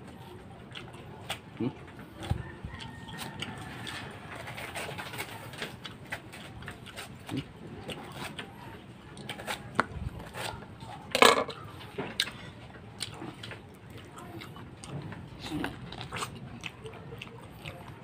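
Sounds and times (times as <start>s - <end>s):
person chewing wet mouth sounds: 0.0s - 18.0s.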